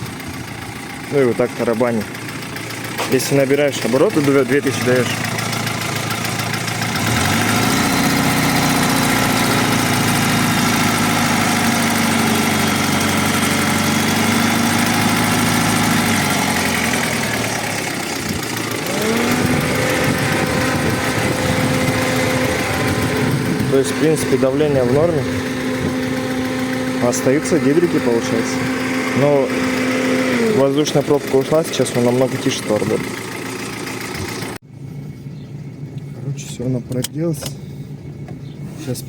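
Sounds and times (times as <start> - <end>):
car engine revving: 0.0 - 35.0
engine tapping: 0.0 - 39.0.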